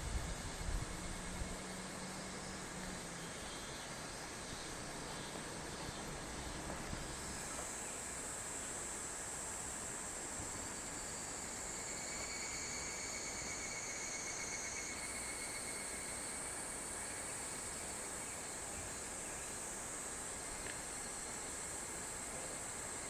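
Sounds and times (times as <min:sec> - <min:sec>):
faint hiss: 0:00.0 - 0:23.0.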